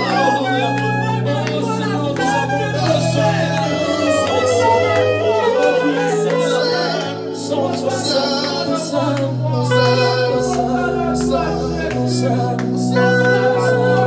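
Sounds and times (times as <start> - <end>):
gospel worship music: 0.0 - 14.0.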